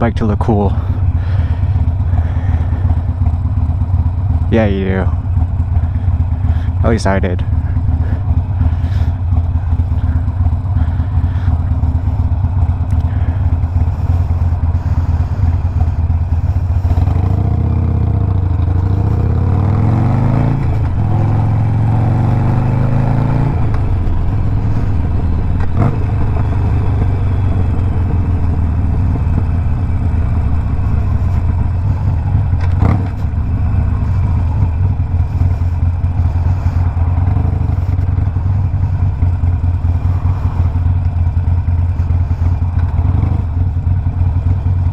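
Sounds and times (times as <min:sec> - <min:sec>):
motorcycle engine running loud: 0:00.0 - 0:44.9.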